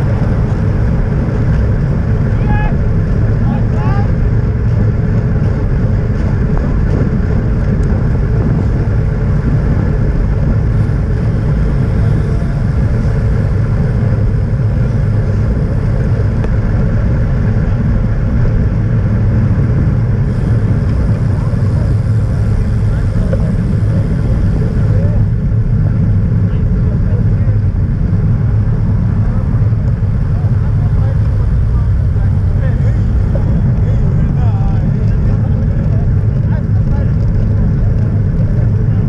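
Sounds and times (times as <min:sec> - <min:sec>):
road noise rumble: 0:00.0 - 0:39.0
wind rush: 0:00.0 - 0:39.0.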